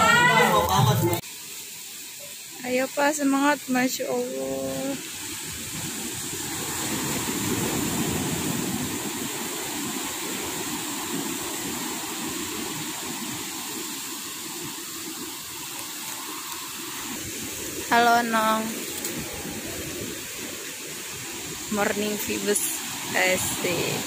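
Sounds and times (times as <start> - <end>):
surf breaking on a beach: 3.9 - 24.0.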